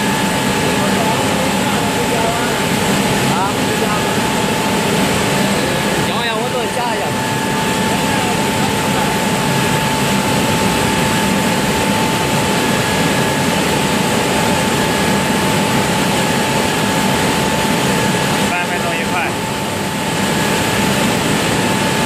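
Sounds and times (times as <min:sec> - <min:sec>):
high whine: 0:00.0 - 0:22.0
melting furnace roar: 0:00.0 - 0:22.0.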